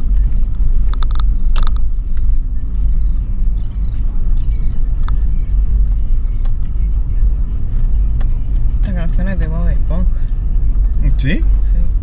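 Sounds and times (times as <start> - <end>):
engine and drivetrain rumble: 0.0 - 12.0.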